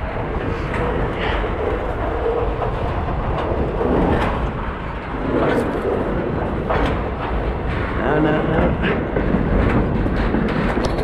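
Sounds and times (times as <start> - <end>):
train rumble and rattle: 0.0 - 11.0.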